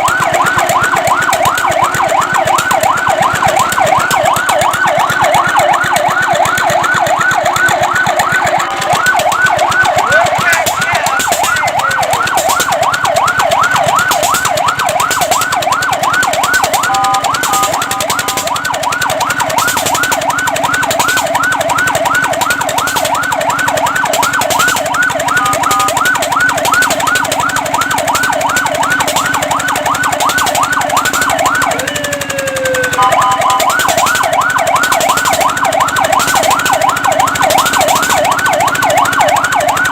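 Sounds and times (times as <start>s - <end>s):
fire truck electronic siren yelp: 0.0s - 39.9s.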